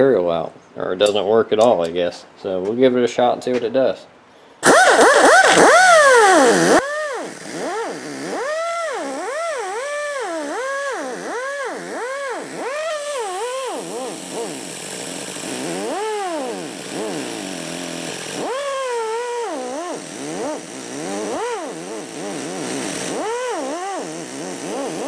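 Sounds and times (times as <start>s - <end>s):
pneumatic die grinder whining: 4.6s - 25.0s.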